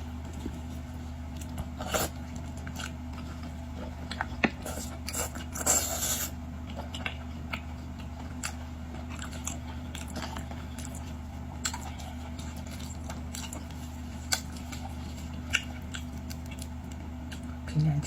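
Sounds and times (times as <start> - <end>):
person chewing and crunching: 0.1 - 18.0.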